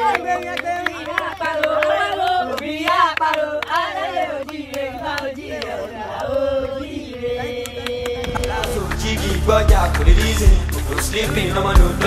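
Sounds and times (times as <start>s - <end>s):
group of people singing: 0.0s - 12.0s
hand claps: 0.0s - 12.0s.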